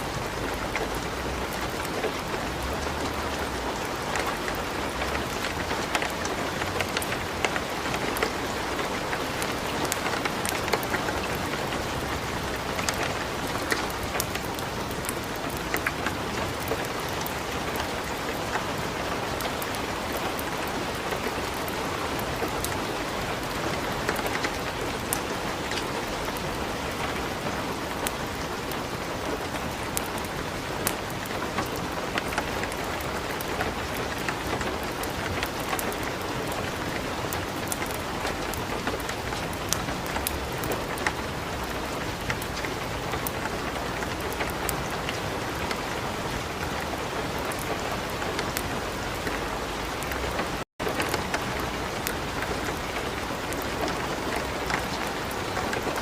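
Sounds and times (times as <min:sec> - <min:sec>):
light rain: 0:00.0 - 0:56.0
wood fire crackling: 0:00.1 - 0:56.0.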